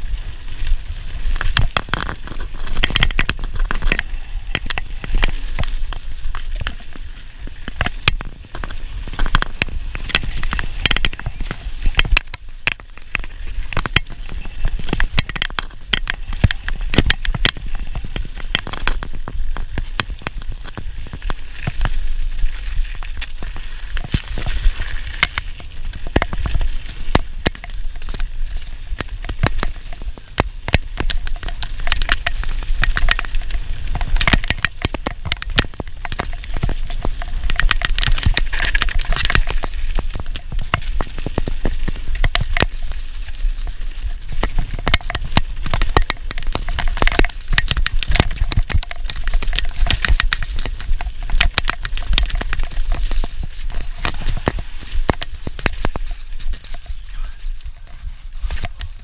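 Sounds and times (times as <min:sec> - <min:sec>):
bike rattling with clicks and knocks: 0:00.0 - 0:59.0
tyres running over loose stone: 0:00.0 - 0:59.0
wind rumbling on microphone: 0:00.0 - 0:59.0.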